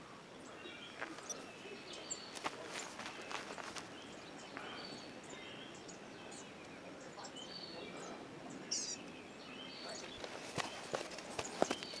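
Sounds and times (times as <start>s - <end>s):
songbirds chirping and calling: 0.0s - 12.0s.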